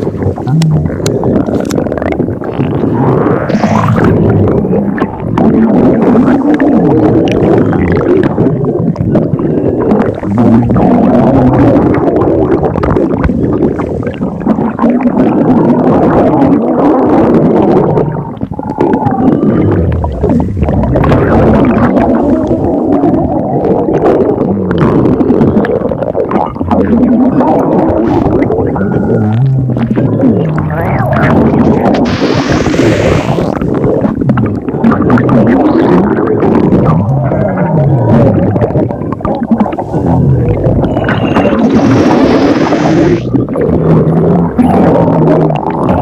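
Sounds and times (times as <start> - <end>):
stomach growling and gurgling: 0.0 - 46.0.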